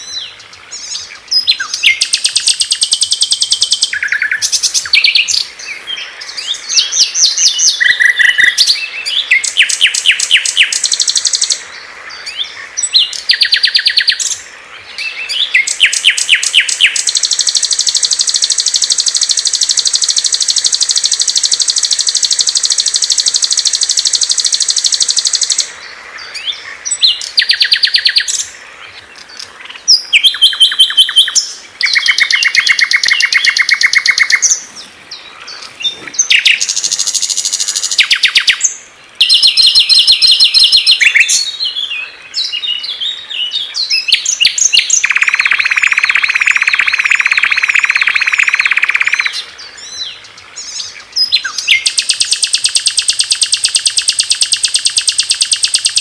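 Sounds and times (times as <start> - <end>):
long steady bird trill: 0.0 - 56.0
songbirds singing: 0.0 - 56.0.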